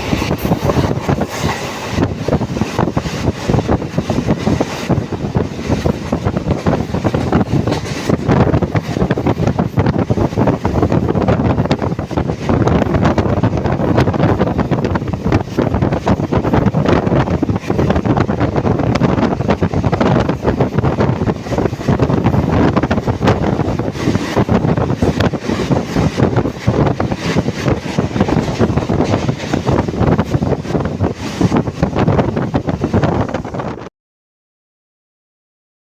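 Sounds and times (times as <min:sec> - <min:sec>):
train clatter: 0:00.0 - 0:33.9
train rumbling on track: 0:00.0 - 0:33.9
wind buffeting microphone: 0:00.0 - 0:33.9.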